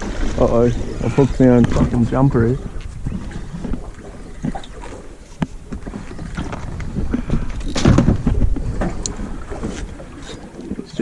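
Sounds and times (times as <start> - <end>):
water against boat: 0.0 - 11.0
wind buffeting microphone: 0.0 - 11.0.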